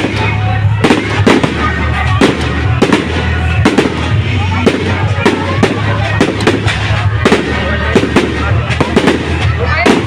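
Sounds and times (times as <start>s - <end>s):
fireworks bursting with sharp bangs: 0.0s - 10.0s
music with steady bass: 0.0s - 10.0s.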